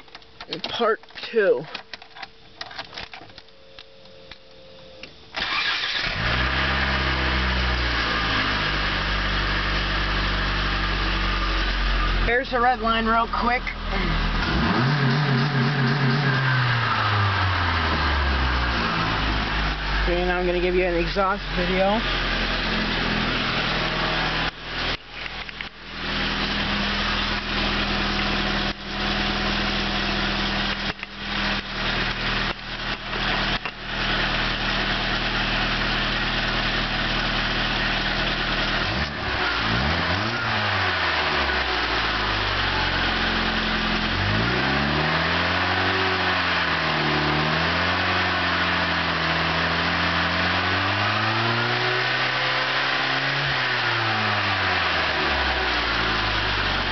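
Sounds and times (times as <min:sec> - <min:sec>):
car engine idling and revving: 0:05.2 - 0:56.9.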